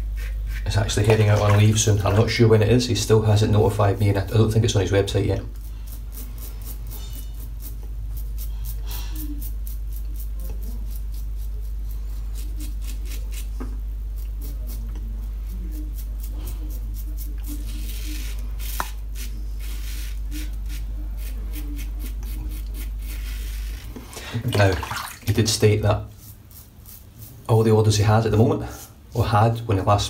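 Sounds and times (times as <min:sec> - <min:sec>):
razor scraping stubble: 0:00.0 - 0:24.0, 0:25.4 - 0:28.0
steady low hum: 0:00.0 - 0:30.0.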